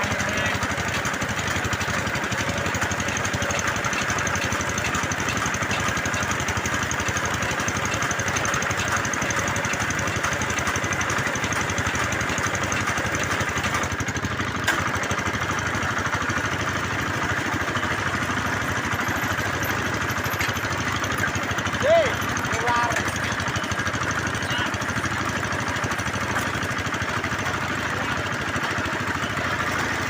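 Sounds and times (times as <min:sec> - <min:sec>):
drilling rig engine running: 0:00.0 - 0:30.0.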